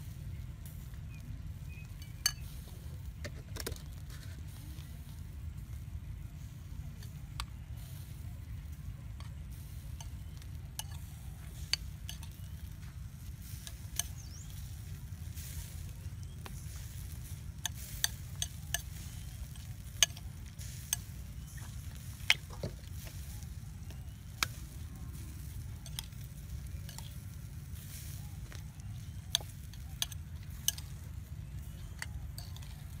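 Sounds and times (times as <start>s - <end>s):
steady low rumble: 0.0s - 33.0s
metal spoon stirring salad: 1.1s - 4.5s, 9.2s - 33.0s.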